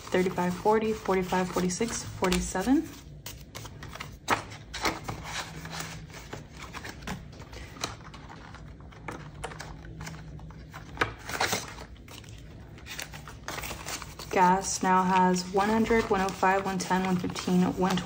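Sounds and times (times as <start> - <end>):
banknotes rustling: 0.0 - 18.0.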